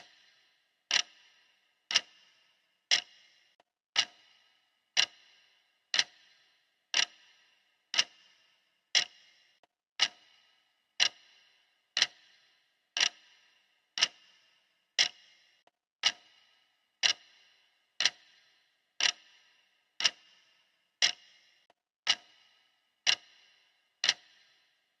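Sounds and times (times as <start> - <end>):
clock ticking: 0.0 - 24.9.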